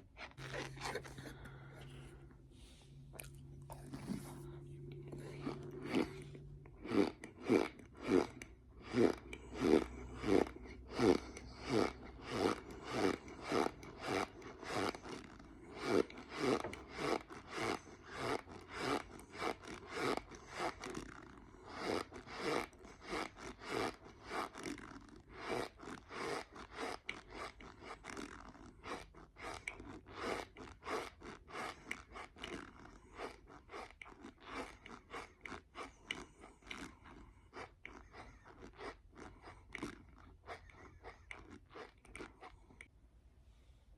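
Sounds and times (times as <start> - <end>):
squeaky chewing of cornstarch: 0.0 - 43.0.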